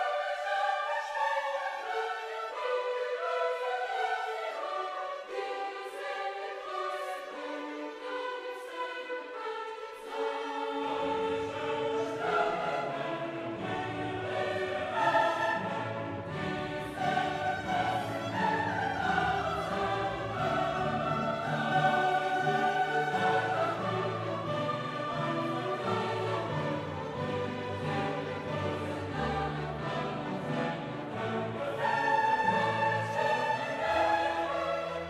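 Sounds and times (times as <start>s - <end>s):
choral and orchestral music: 0.0s - 35.0s.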